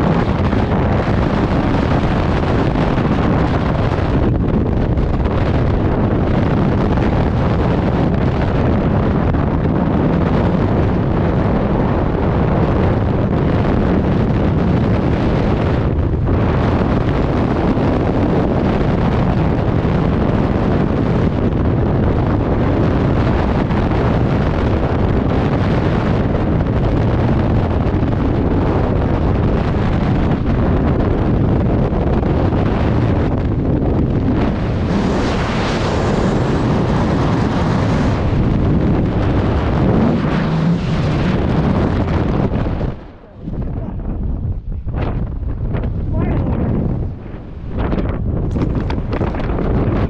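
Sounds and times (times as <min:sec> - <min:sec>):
wind roaring over microphone: 0:00.0 - 0:50.0.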